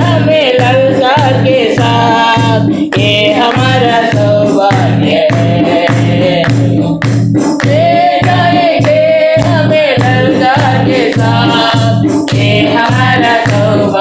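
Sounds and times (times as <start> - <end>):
instrumental backing with beat: 0.0 - 14.0
voices singing worship song: 0.0 - 14.0.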